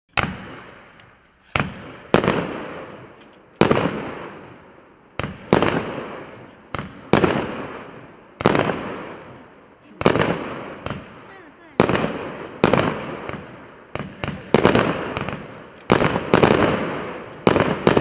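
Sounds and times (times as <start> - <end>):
firework cake bangs: 1.6 - 4.4, 5.2 - 18.0.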